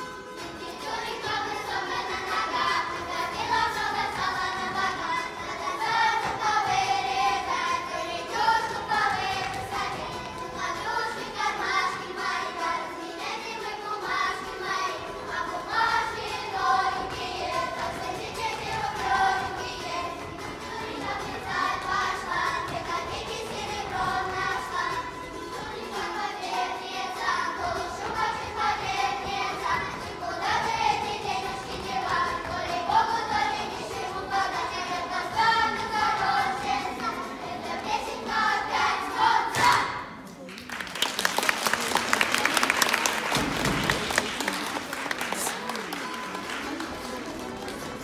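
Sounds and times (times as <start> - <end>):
children singing folk song in chorus: 0.0 - 40.2.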